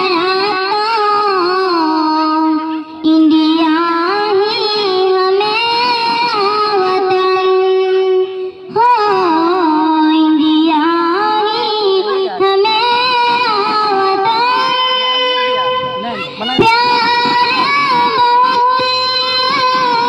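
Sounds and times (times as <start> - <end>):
woman singing into a microphone: 0.0 - 20.0.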